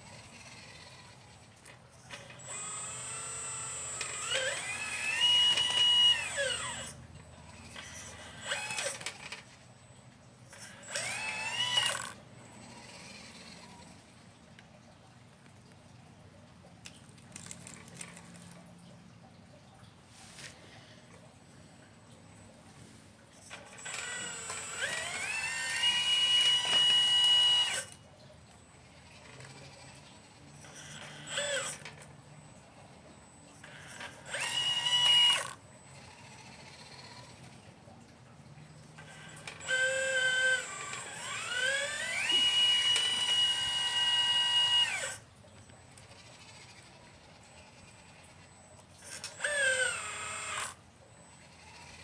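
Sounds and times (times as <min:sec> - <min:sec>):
hydraulic pump motor whining: 0:00.0 - 0:14.2, 0:21.3 - 0:37.7, 0:38.8 - 0:52.0.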